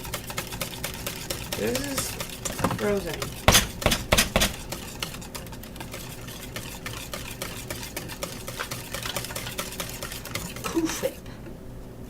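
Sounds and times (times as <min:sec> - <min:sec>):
fork clicking and scraping metal bowl: 0:00.0 - 0:11.1.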